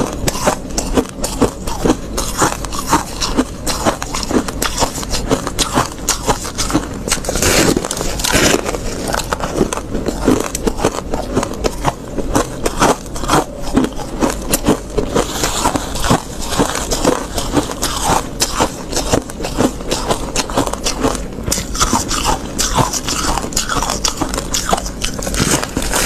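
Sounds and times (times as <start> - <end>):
chewing crunchy frost: 0.0 - 26.0.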